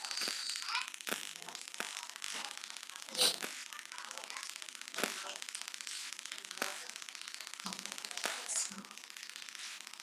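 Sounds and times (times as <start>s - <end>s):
sharp clicks and smacks: 0.0s - 10.0s
steady hiss: 0.0s - 10.0s.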